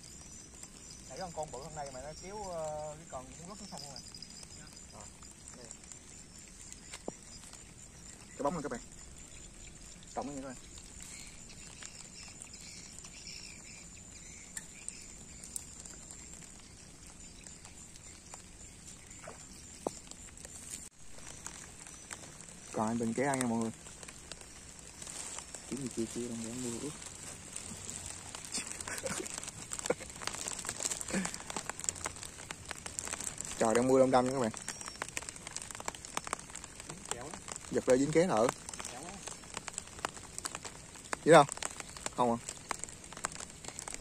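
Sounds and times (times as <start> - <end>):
faint chirps: 0.0 - 44.0
rain pattering: 0.0 - 44.0
soft even hiss: 0.0 - 44.0.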